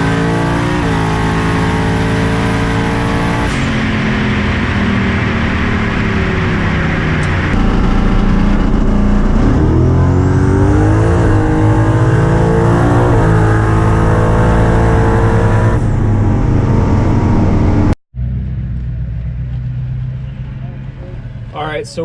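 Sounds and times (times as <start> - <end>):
racing car engine accelerating: 0.0 - 21.5
high whine: 0.0 - 22.0.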